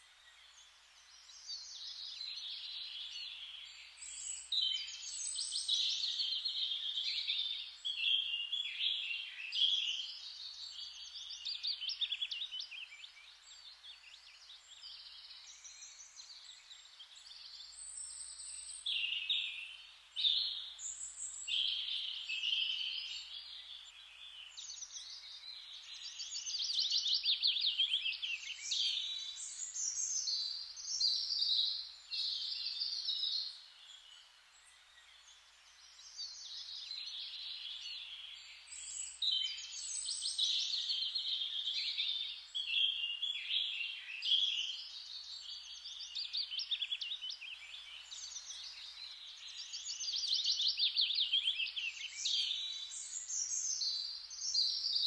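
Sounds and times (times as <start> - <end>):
faint steady hiss: 0.0 - 55.0
songbirds singing: 0.0 - 55.0.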